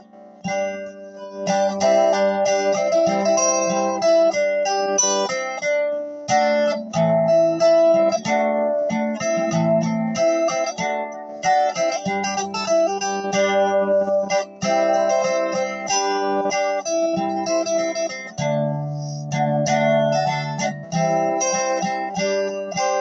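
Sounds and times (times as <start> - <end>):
guitar plucked and strummed: 0.0 - 23.0.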